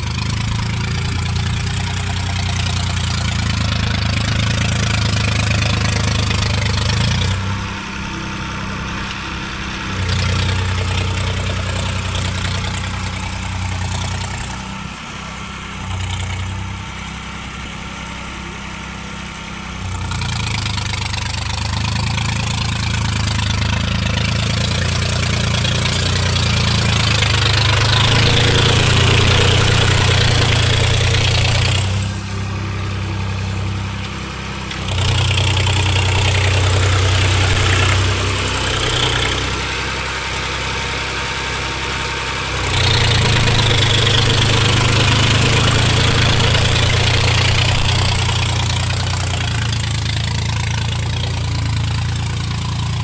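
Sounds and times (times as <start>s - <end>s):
tractor diesel engine working: 0.0s - 53.0s.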